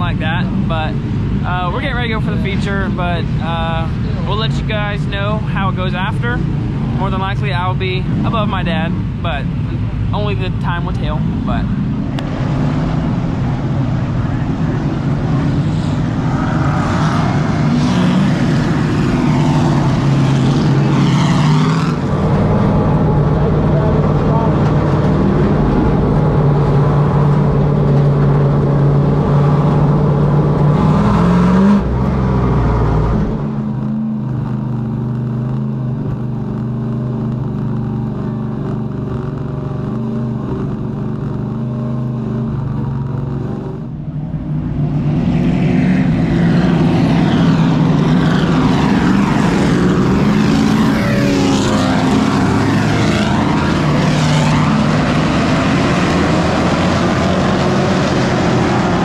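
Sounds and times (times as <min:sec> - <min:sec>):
race truck engines droning: 0:00.0 - 0:59.0
trucks passing by: 0:00.0 - 0:59.0.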